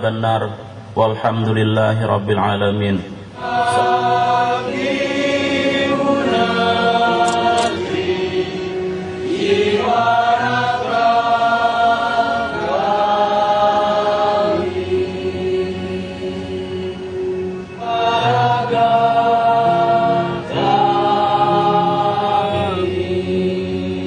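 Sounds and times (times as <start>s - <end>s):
choir singing slow melody: 3.3s - 24.0s.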